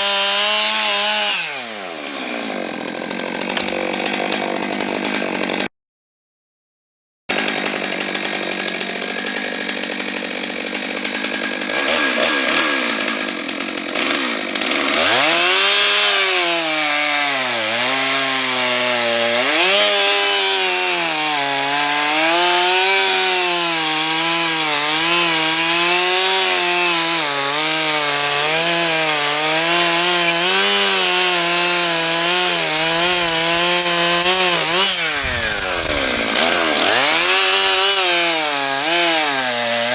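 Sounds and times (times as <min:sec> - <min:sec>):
chainsaw cutting through log: 0:00.0 - 0:05.7, 0:07.3 - 0:39.9.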